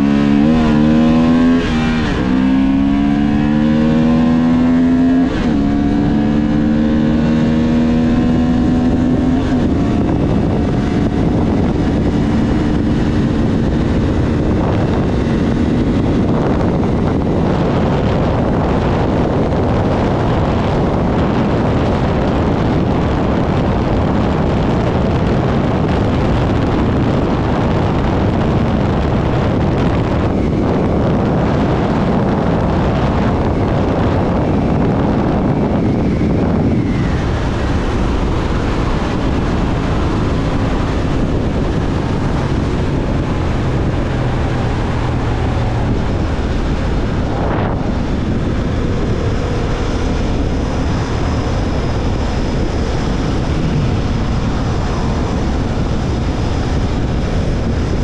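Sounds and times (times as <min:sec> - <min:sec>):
motorcycle engine rumble: 0:00.0 - 0:58.0
wind noise over microphone: 0:00.0 - 0:58.0.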